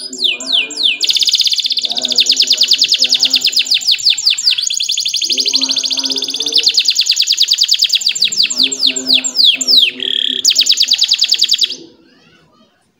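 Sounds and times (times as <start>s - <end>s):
canary singing: 0.0s - 12.4s.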